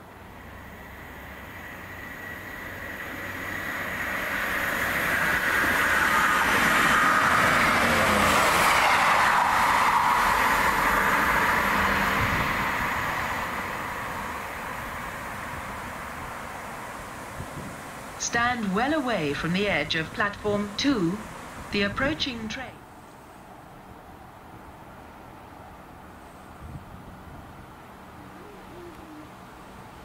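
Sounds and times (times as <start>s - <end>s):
train passing at speed: 0.0s - 30.0s.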